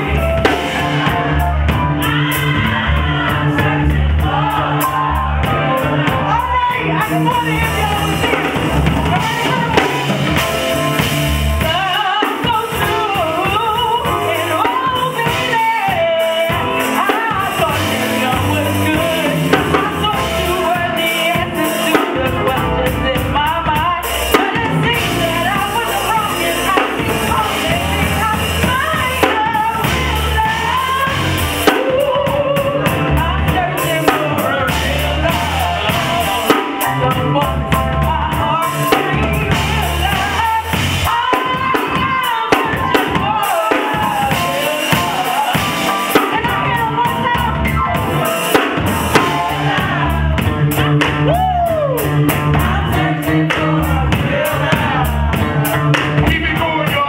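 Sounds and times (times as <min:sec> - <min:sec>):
bass line: 0:00.0 - 0:57.0
drum kit: 0:00.0 - 0:57.0
woman singing into microphone: 0:00.0 - 0:57.0.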